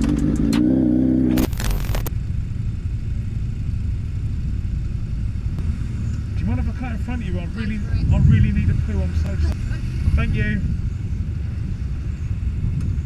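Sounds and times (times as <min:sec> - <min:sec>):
motorcycle engine running: 0:00.0 - 0:13.0
motorcycle idling: 0:01.5 - 0:13.0.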